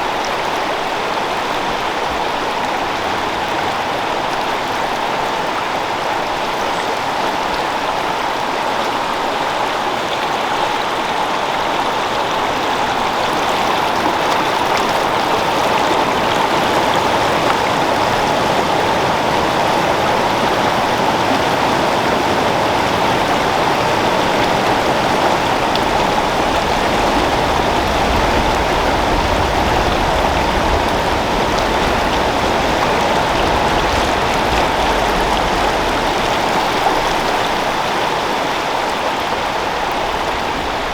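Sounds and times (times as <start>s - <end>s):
creek water flowing: 0.0s - 40.9s.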